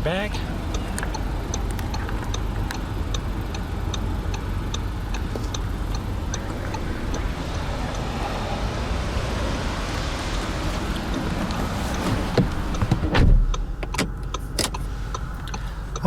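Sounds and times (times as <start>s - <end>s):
car engine idling: 0.0s - 16.0s
light regular ticking: 0.0s - 16.0s.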